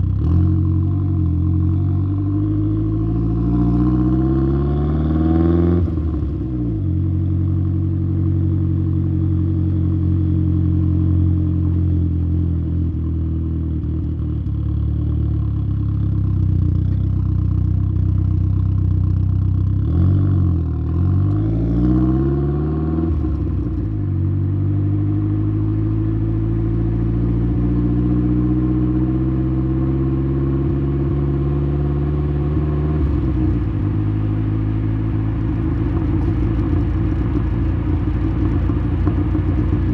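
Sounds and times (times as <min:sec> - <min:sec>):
car exhaust at low revs: 0:00.0 - 0:39.9.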